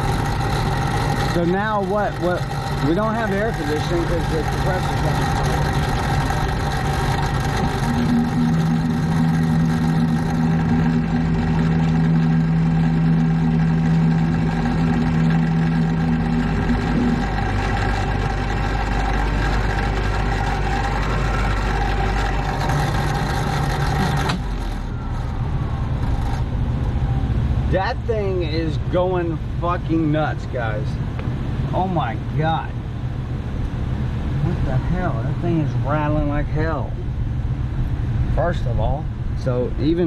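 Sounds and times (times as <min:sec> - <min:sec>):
hvac unit machine drone: 0:00.0 - 0:40.0
strong low hum: 0:00.0 - 0:40.0.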